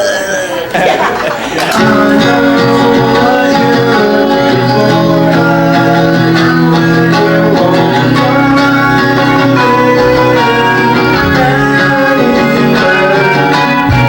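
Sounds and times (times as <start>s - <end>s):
country band music with guitar: 0.0s - 14.0s.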